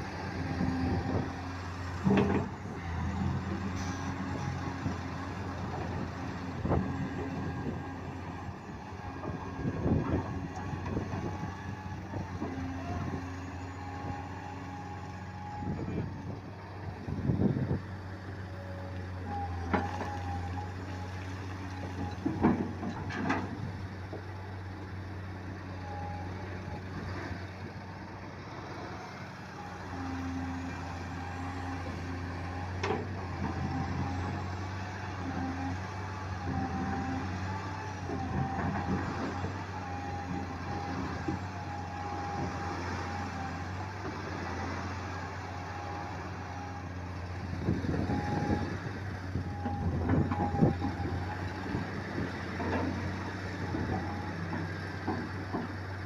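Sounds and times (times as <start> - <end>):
diesel machinery droning: 0.0 - 56.0.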